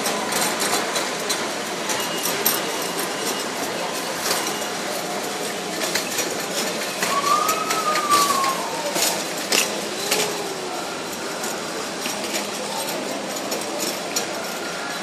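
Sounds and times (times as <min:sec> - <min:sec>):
supermarket din: 0:02.0 - 0:15.0.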